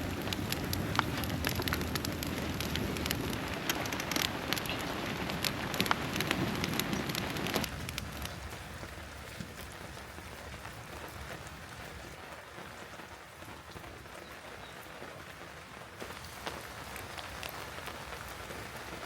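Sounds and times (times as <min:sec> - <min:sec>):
rain falling: 0:00.0 - 0:19.0
raindrops ticking on surface: 0:00.0 - 0:19.0.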